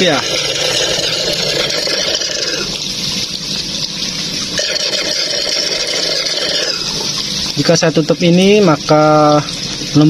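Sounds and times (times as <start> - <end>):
low pump hum: 0.0 - 10.0
water churning with air bubbles: 0.0 - 10.0.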